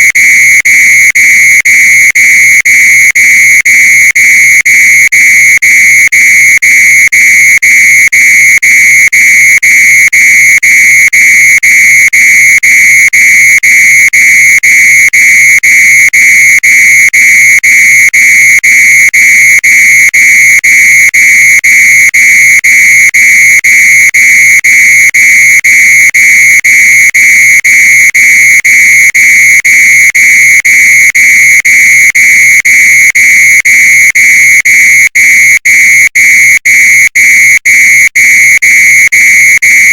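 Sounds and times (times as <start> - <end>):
muffled fire alarm beeping: 0.0 - 39.9.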